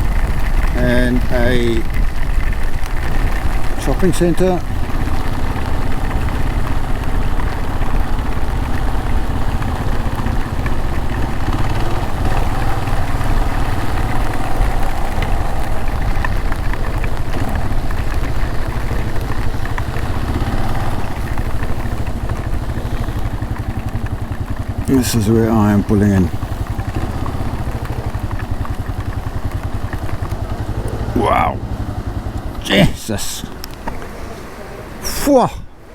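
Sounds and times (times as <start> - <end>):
motorcycle engine running: 0.0 - 35.9
noisy rush: 0.0 - 35.9.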